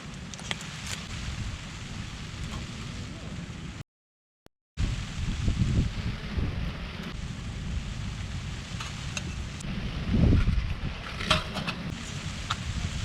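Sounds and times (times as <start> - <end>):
falling rain hiss: 0.0 - 3.8, 4.8 - 13.0
wind buffeting microphone: 0.0 - 3.8, 4.8 - 13.0.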